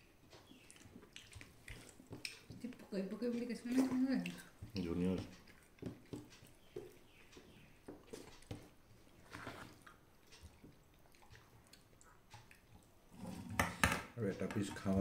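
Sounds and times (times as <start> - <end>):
faint chewing: 0.0 - 13.6.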